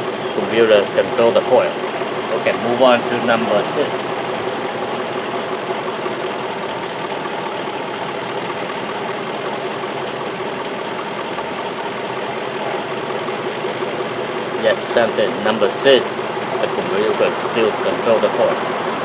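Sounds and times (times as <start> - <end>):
car engine idling with misfires: 0.0 - 19.0.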